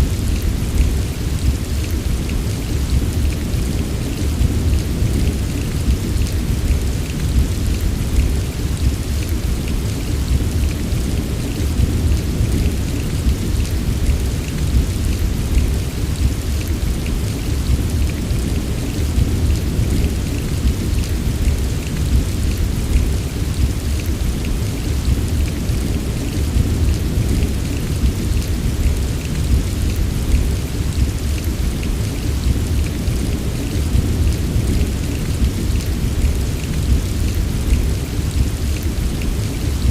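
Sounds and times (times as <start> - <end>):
heavy rain: 0.0 - 39.9
raindrops ticking: 0.0 - 39.9.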